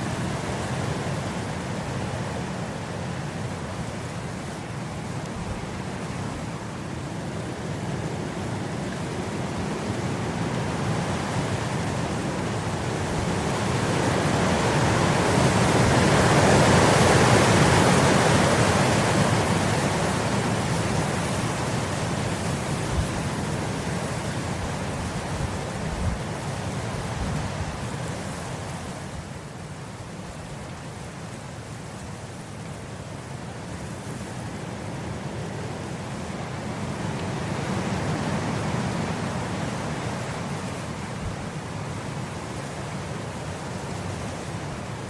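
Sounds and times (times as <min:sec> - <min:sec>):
wind blowing through grass: 0:00.0 - 0:45.0.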